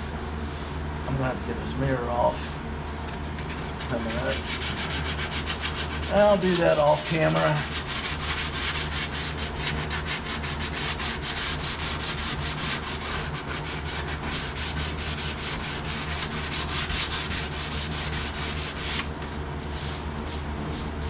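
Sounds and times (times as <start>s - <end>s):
sandpaper rubbing on sheet metal: 0.0s - 0.8s, 4.1s - 21.0s.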